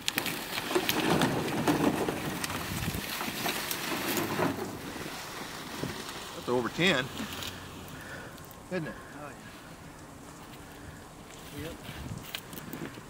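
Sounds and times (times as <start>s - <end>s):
dry reeds rustling and crackling: 0.0s - 13.0s.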